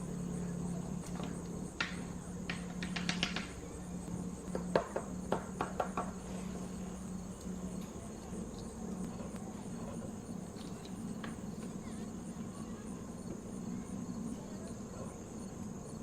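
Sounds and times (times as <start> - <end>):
high-pitched chirring buzz: 0.0 - 16.0
low hum: 0.0 - 16.0.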